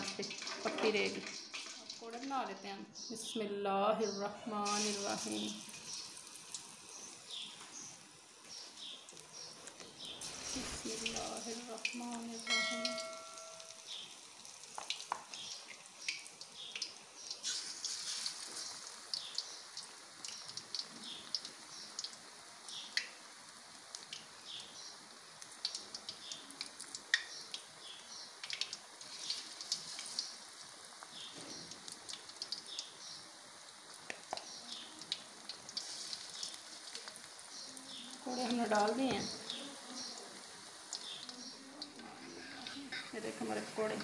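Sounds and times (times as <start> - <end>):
food deep-frying in hot oil: 0.0 - 44.0.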